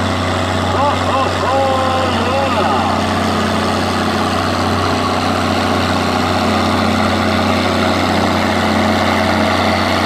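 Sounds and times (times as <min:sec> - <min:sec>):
tractor engine running under load: 0:00.0 - 0:10.0.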